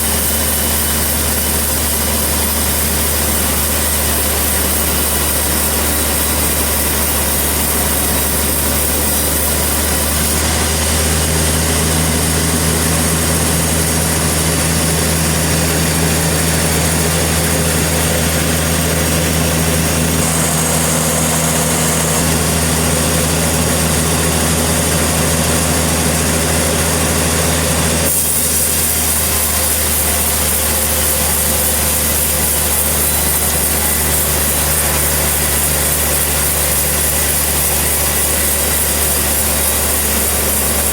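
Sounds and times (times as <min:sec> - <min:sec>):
portable sawmill blade sawing log: 0:00.0 - 0:40.9.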